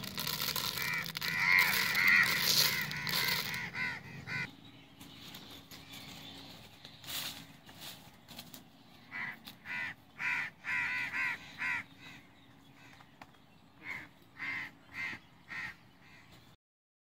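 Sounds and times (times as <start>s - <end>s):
bird calling: 0.0s - 16.6s.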